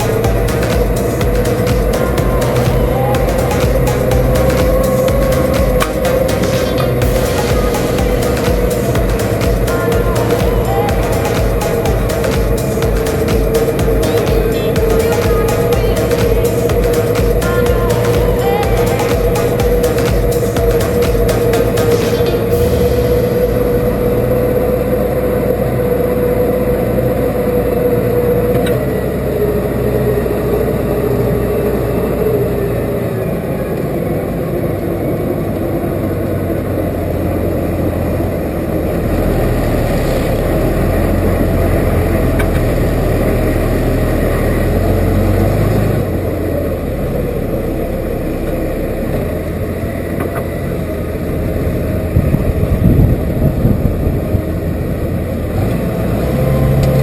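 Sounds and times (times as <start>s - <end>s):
tractor engine running: 0.0s - 57.0s
whine over engine drone: 0.0s - 57.0s.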